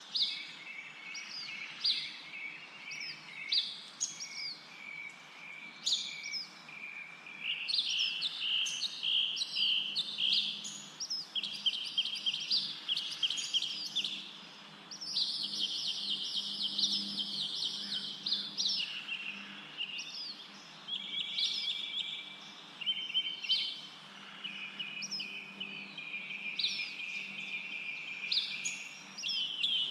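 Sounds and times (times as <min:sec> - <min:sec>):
birds chirping and twittering: 0:00.0 - 0:29.9.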